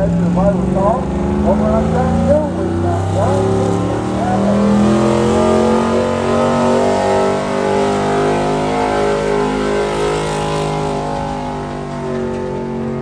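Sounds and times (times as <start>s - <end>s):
vehicle engine at high revs: 0.0s - 13.0s.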